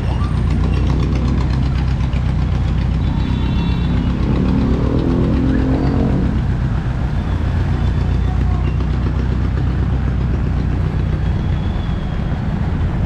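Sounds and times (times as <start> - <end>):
vehicle passing: 0.0 - 11.4
vehicle engine rumbling: 0.0 - 13.0.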